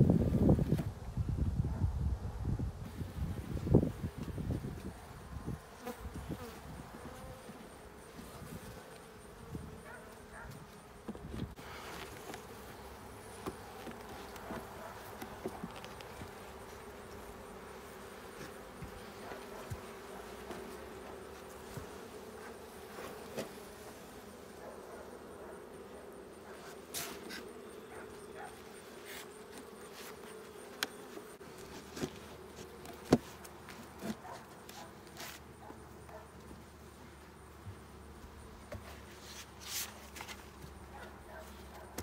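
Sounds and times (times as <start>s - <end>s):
bees buzzing: 2.9s - 39.1s.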